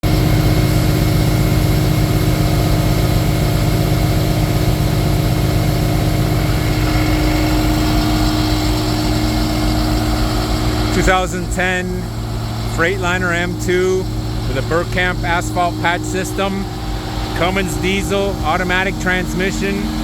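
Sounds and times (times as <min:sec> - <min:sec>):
constant hum: 0:00.0 - 0:20.0
diesel truck engine idling: 0:00.0 - 0:20.0.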